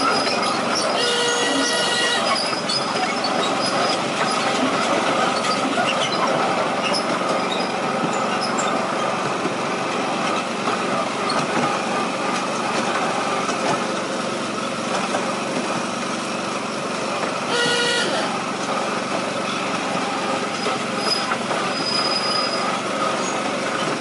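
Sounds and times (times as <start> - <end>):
small locomotive engine running: 0.0 - 24.0
train wheels rolling on track: 0.0 - 24.0.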